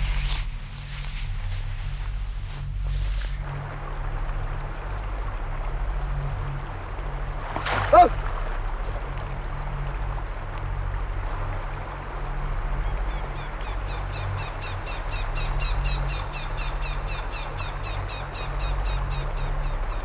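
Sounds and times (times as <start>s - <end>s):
low rumble: 0.0s - 20.0s
stream water running over rocks: 0.0s - 20.0s.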